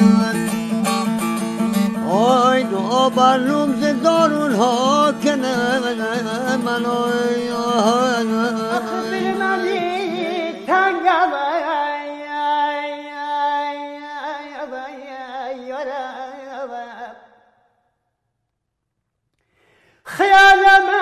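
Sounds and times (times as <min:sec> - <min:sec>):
man singing folk melody: 0:00.0 - 0:17.3, 0:20.0 - 0:21.0.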